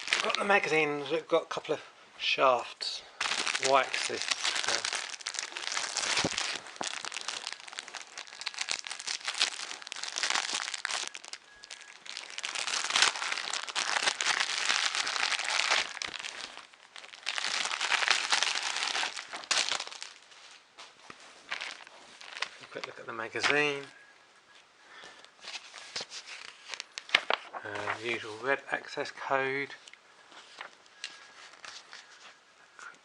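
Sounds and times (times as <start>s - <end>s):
packaging crinkling and rustling: 0.0s - 1.0s, 3.2s - 23.9s, 25.4s - 28.4s, 30.4s - 32.4s.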